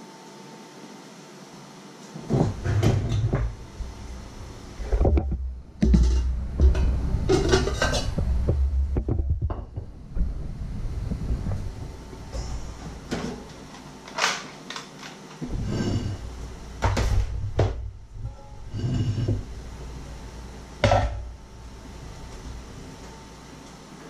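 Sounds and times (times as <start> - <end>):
low hum: 2.2 - 13.8, 15.4 - 23.8.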